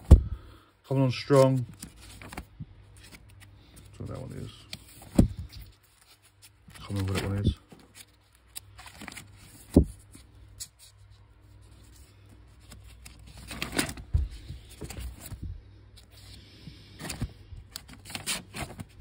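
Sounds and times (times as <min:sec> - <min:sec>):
paper sleeves rustling and sliding: 0:01.3 - 0:19.0.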